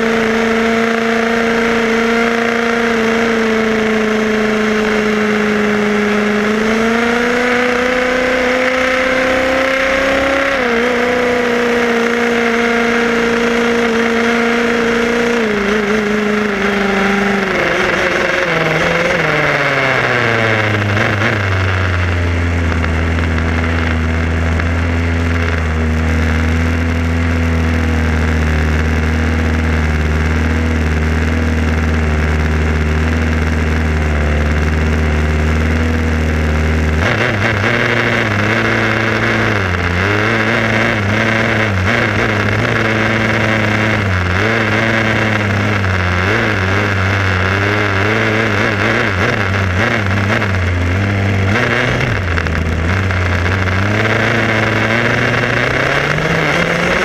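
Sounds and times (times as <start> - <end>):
small two-stroke engine running: 0.0 - 57.0.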